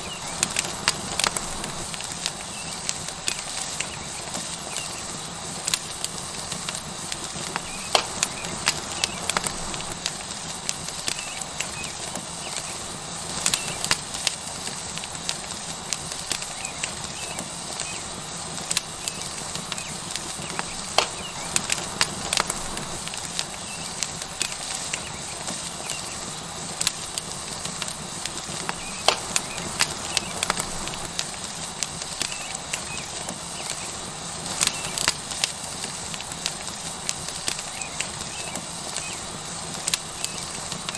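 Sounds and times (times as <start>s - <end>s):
steak sizzling on hot rock: 0.0s - 40.9s
wood fire crackling and popping: 0.0s - 40.9s.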